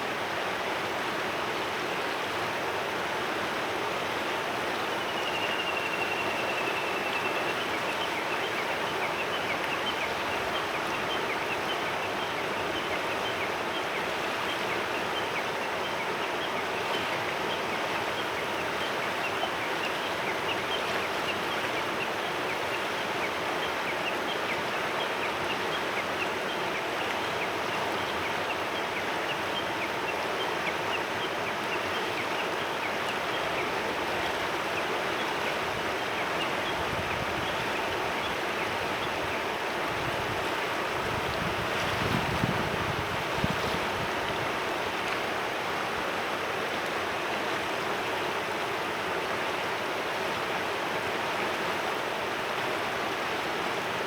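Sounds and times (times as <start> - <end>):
river flowing over stones: 0.0 - 54.0.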